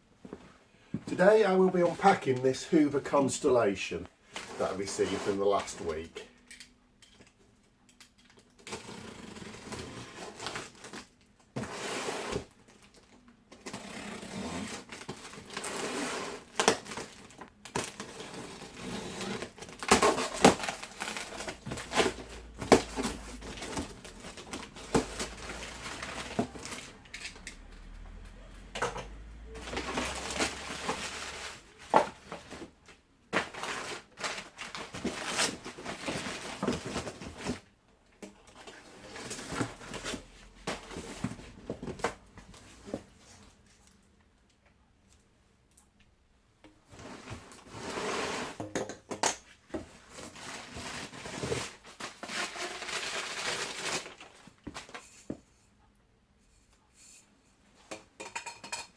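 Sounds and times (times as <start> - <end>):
cardboard and wrapping rustling: 0.2 - 6.3, 8.5 - 37.8, 38.4 - 44.0, 46.8 - 48.7, 49.5 - 55.6.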